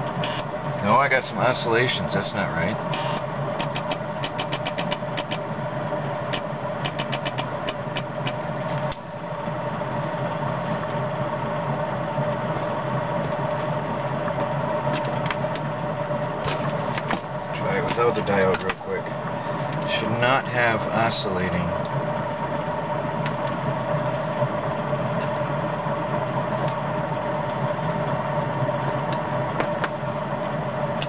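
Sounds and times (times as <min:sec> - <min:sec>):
electrical buzz from relay: 0:00.0 - 0:31.0.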